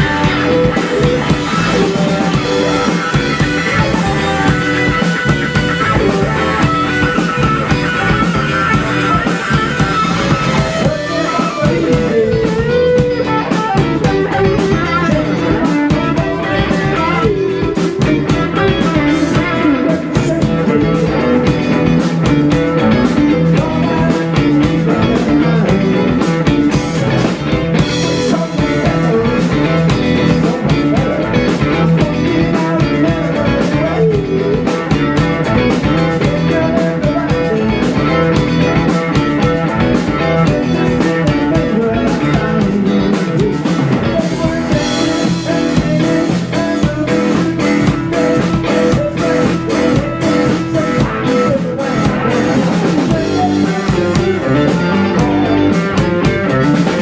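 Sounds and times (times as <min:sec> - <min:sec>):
blues-rock band playing live: 0:00.0 - 0:57.0.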